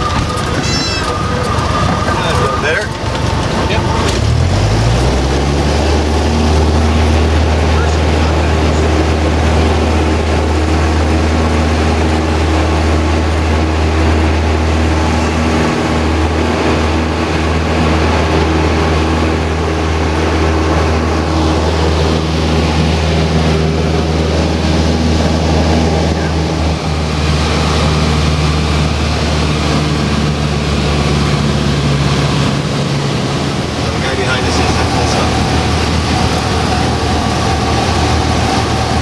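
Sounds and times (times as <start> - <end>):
propeller plane engine drone: 0.0 - 39.0.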